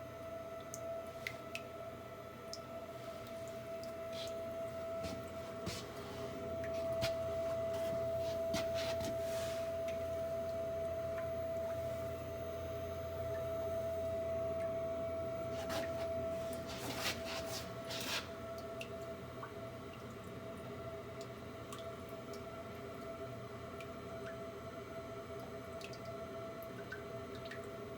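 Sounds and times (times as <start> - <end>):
boiler high-pitched whine: 0.0 - 27.9.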